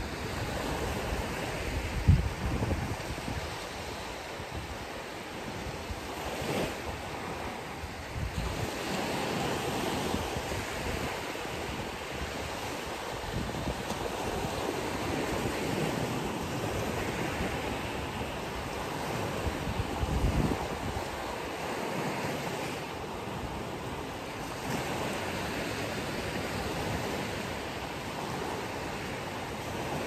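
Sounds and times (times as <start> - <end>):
ocean surf on beach: 0.0 - 30.0
wind buffeting microphone: 0.0 - 30.0.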